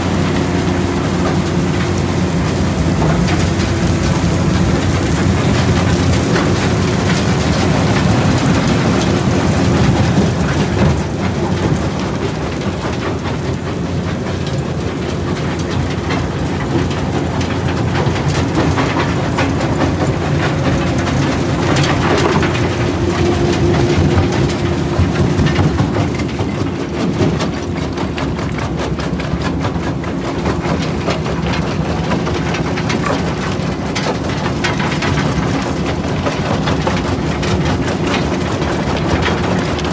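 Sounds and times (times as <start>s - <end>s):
jaw crusher machine noise: 0.0s - 39.9s
rubble clattering on conveyor: 0.0s - 39.9s.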